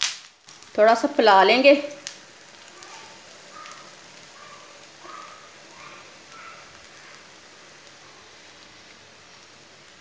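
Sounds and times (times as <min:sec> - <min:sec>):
oil sizzling in a pan: 0:00.0 - 0:10.0.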